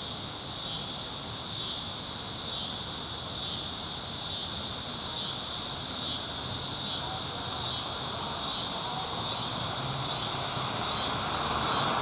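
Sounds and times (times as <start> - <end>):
cicada chorus buzzing: 0.0 - 12.0.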